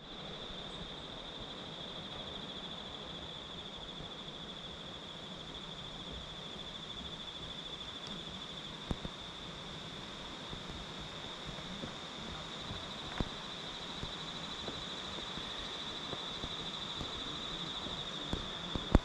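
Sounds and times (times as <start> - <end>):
background hiss: 0.0 - 19.0
insect chorus drone: 0.0 - 19.0.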